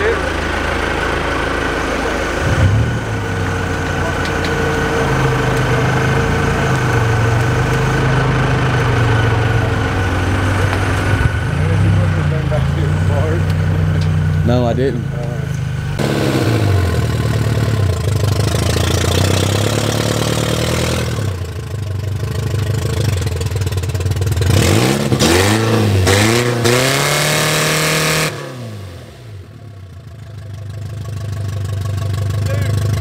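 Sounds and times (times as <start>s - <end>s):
car engine revving: 0.0s - 30.5s.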